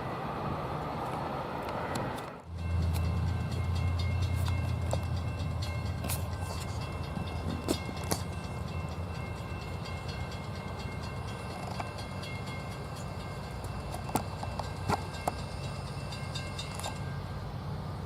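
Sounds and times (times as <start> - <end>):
train cars rumbling: 0.0 - 18.0
wheel clacks over track joints: 2.6 - 17.1.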